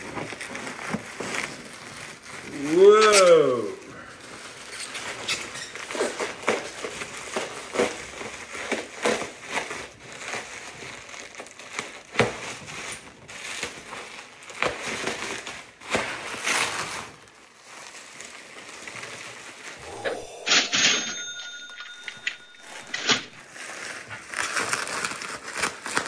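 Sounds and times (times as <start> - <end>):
bubble wrap crinkling: 0.0 - 19.8, 23.4 - 26.0.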